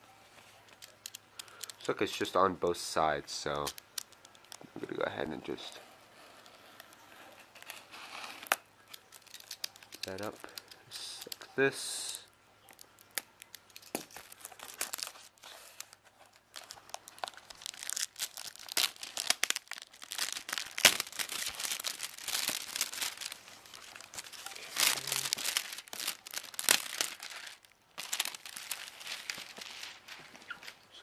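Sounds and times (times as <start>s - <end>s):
plastic wrap crinkling and tearing: 0.5s - 2.4s, 3.4s - 5.7s, 6.6s - 30.9s.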